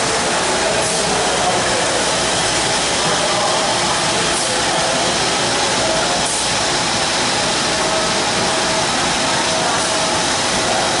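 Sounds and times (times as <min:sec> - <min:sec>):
factory machinery hiss: 0:00.0 - 0:11.0.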